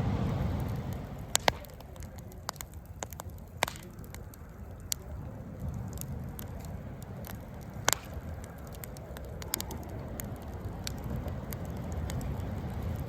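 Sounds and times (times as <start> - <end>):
campfire crackling: 0.0 - 13.0
low steady rumble: 0.0 - 13.0
sharp pops from fire: 0.0 - 13.0.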